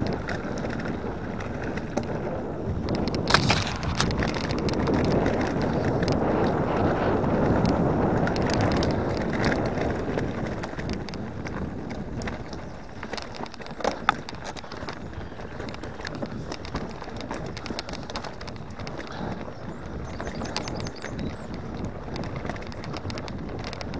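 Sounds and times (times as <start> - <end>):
bike rattles and knocks: 0.0 - 23.9
bike tyres rolling on gravel: 0.0 - 23.9
wind on microphone: 0.0 - 23.9.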